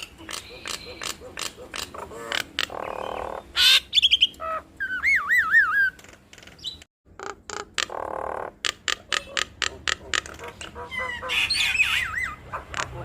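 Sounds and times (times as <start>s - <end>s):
myna clicks and rasping calls: 0.0s - 13.0s.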